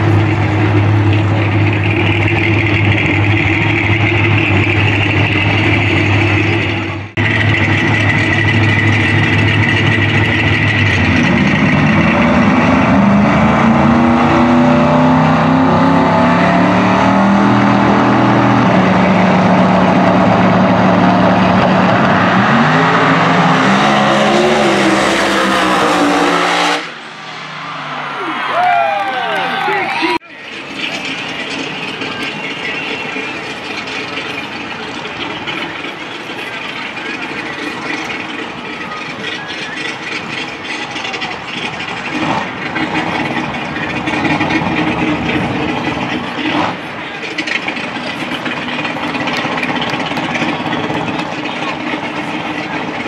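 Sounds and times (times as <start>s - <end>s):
drag car engines idling: 0.0s - 25.5s, 26.9s - 53.0s
cars launching: 0.0s - 53.0s
engines revving: 0.0s - 53.0s.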